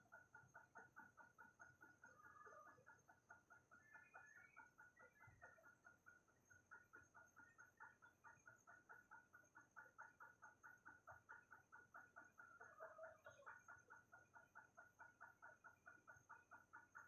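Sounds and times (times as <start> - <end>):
thin steady high tone: 1.9 - 15.6.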